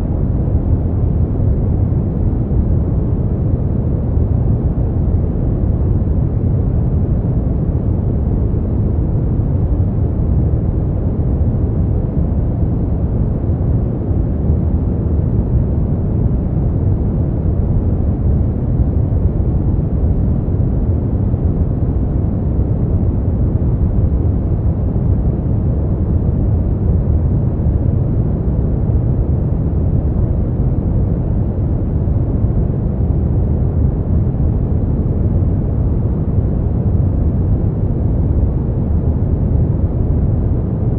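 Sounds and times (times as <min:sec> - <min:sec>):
deep rumbling brown noise: 0:00.0 - 0:40.9.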